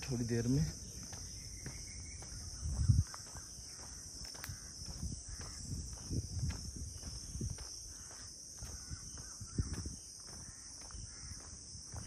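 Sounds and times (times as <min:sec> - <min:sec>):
footsteps on dirt path: 0:00.0 - 0:12.0
insects chirring: 0:00.0 - 0:12.0.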